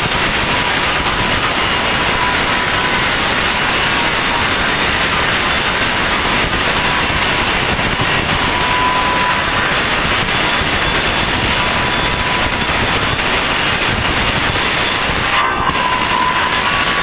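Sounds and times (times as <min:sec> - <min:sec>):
loud steady machine noise: 0:00.0 - 0:17.0.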